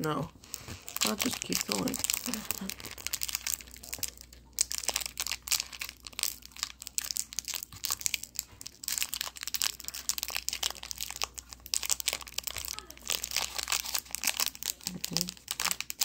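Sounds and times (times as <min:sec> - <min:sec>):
candy wrapper crinkling and tearing: 0:00.0 - 0:16.0.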